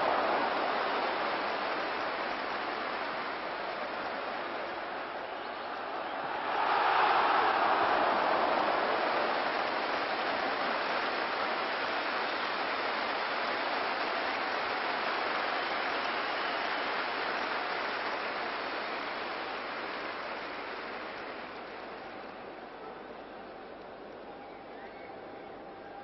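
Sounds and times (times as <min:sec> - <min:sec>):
stadium crowd cheering: 0:00.0 - 0:26.0.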